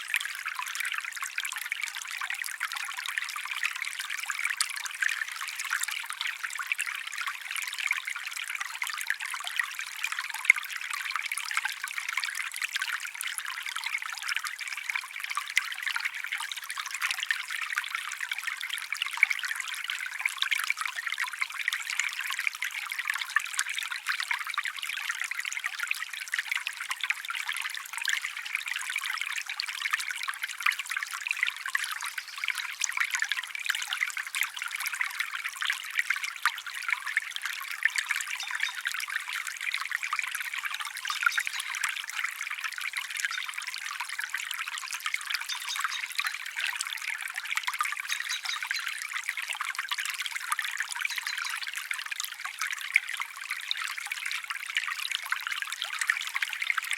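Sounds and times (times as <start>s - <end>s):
small stream trickling: 0.0s - 56.9s.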